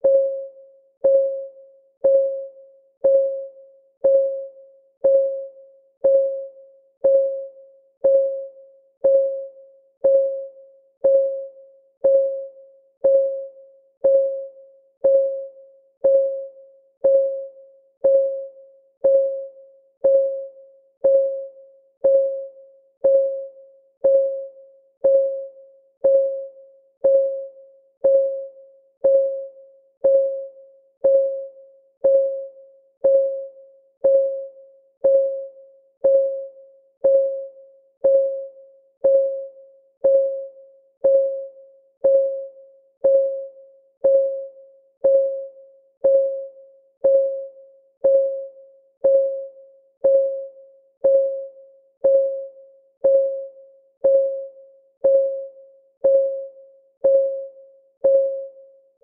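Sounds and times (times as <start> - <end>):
countdown timer ticking: 1.0 - 58.6.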